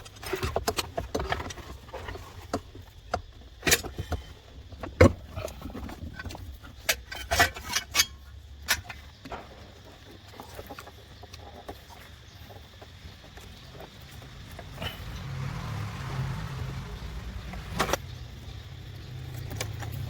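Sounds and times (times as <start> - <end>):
tools and car parts clinking: 0.0 - 15.5, 16.8 - 20.0.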